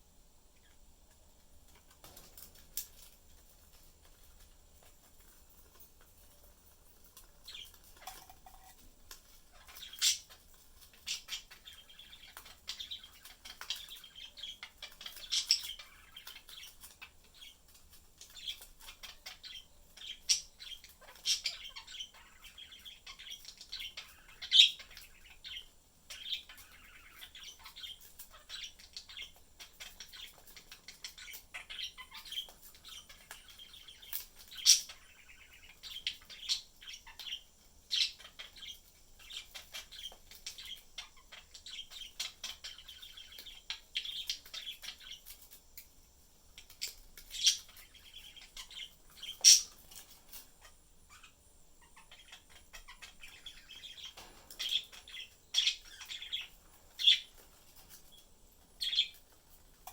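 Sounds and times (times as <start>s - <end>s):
budgerigars chirping and warbling: 1.7s - 59.9s.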